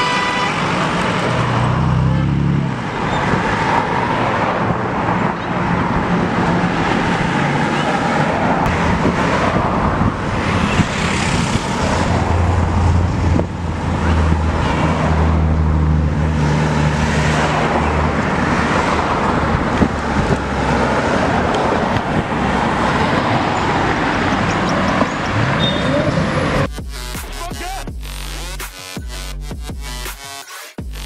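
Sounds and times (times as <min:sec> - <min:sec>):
cars driving past: 0:00.0 - 0:26.7.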